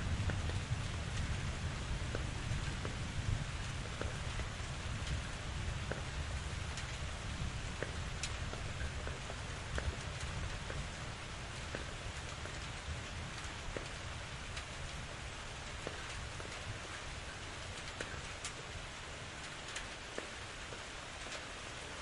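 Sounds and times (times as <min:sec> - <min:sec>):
raindrops ticking close by: 0:00.0 - 0:22.0
steady rain falling: 0:00.0 - 0:22.0.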